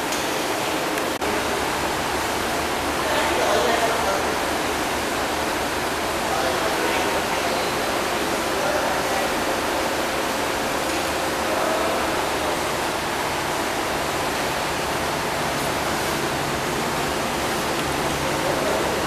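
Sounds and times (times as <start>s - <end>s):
aquarium pumps rushing water: 0.0s - 19.0s.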